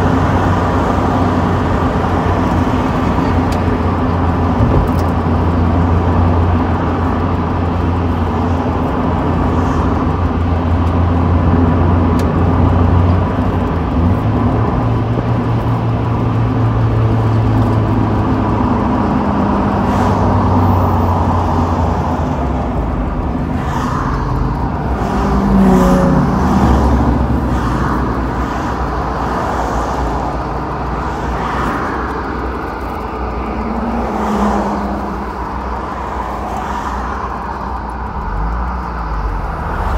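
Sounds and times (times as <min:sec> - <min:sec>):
car engine running: 0:00.0 - 0:39.9
wind and road noise: 0:00.0 - 0:39.9.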